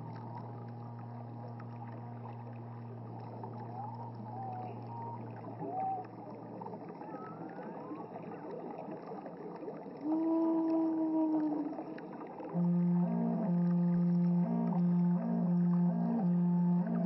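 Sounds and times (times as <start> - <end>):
low flute melody: 0.0 - 8.3, 10.0 - 17.0.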